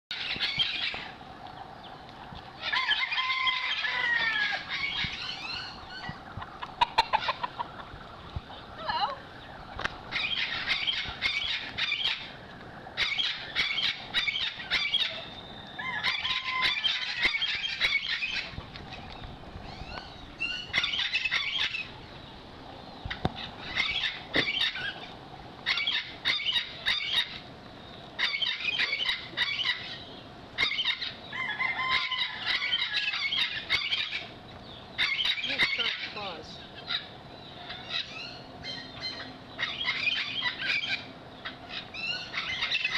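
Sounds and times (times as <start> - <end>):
birds chattering and squawking: 0.1 - 42.9.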